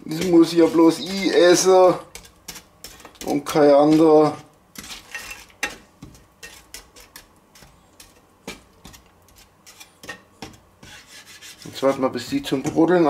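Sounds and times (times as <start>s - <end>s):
spatula scraping frying pan: 0.0s - 13.0s.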